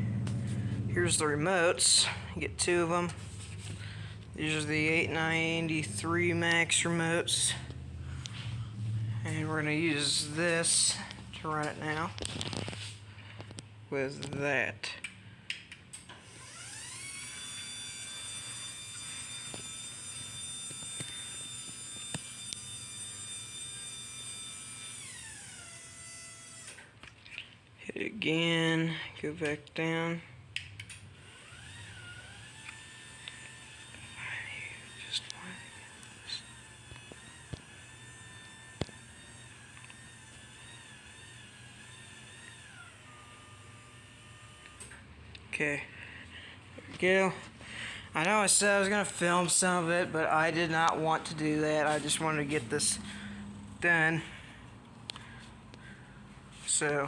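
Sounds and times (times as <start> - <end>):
garage door opener motor whine: 0.0 - 14.4, 15.1 - 27.1, 29.8 - 57.0.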